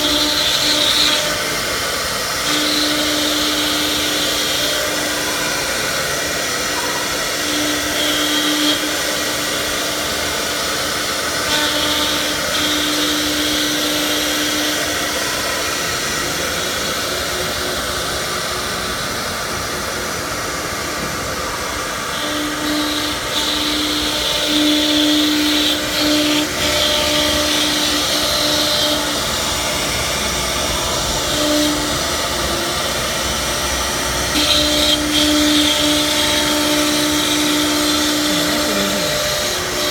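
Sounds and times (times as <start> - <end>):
cnc router cutting wood: 0.0 - 39.9.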